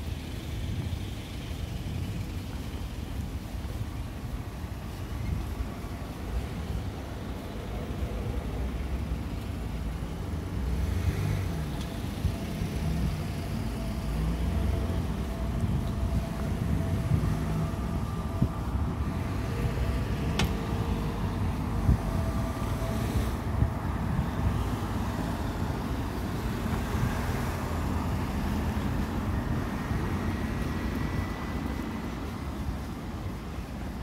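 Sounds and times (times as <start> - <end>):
cars passing with low rumble: 0.0 - 34.0.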